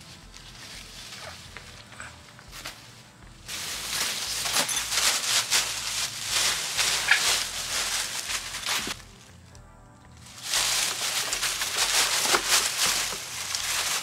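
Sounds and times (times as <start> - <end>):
dry leaves rustling and crunching: 0.0 - 9.5, 10.1 - 14.0.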